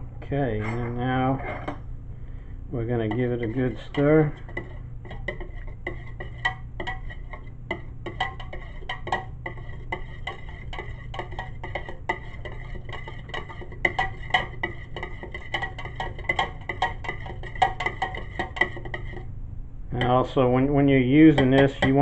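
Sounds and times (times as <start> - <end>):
utensil clinking against a bowl: 2.8 - 19.3, 19.9 - 22.0.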